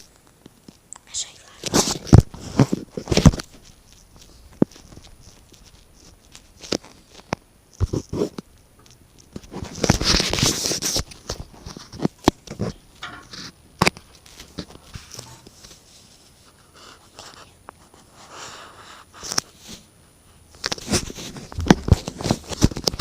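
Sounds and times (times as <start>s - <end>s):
scratching inside chimney: 1.6s - 23.0s.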